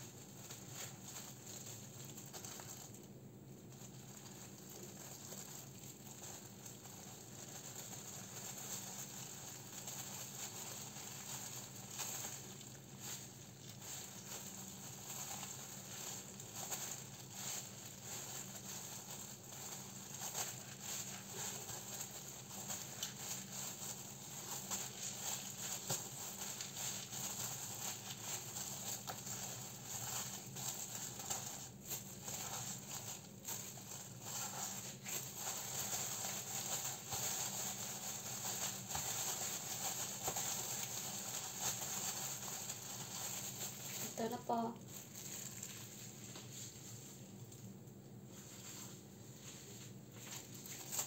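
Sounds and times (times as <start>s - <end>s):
plastic gloves crinkling: 0.0s - 51.0s.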